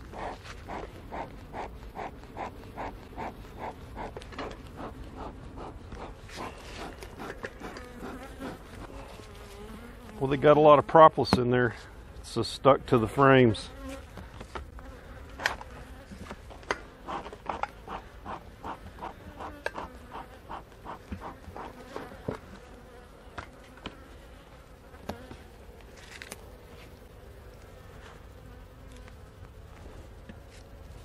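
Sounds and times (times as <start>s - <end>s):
honey bees buzzing: 0.0s - 11.2s, 11.9s - 31.0s.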